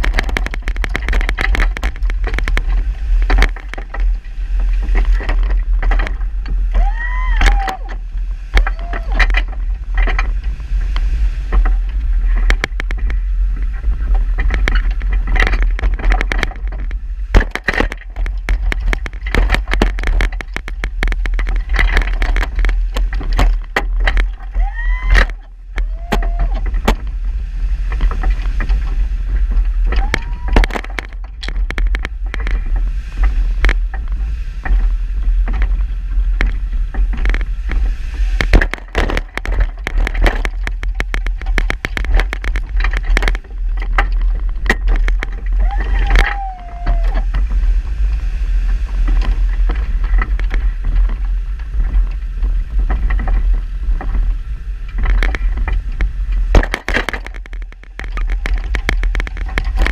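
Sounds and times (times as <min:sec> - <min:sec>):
engine rumble: 0:00.0 - 0:59.9.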